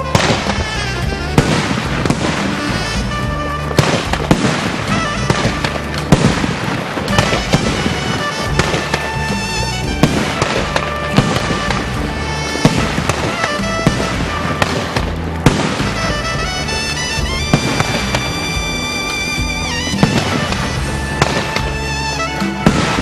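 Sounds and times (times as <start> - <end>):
fireworks bangs and crackles: 0.0 - 23.0
music with bass line: 0.0 - 23.0.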